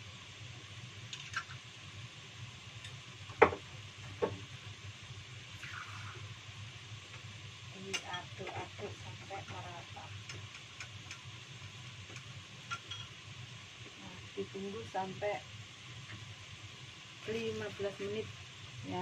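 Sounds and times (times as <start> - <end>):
gas burner hissing: 0.0 - 19.0.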